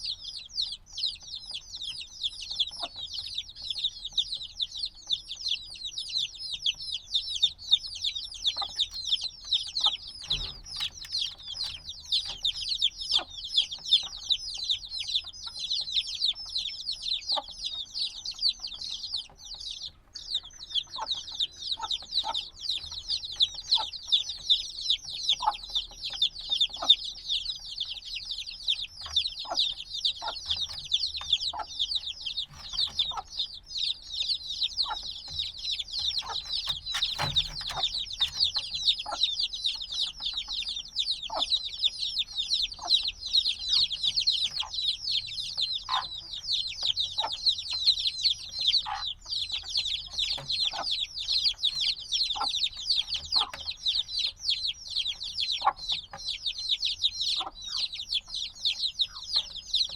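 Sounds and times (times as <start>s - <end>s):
chicks cheeping: 0.0s - 59.9s.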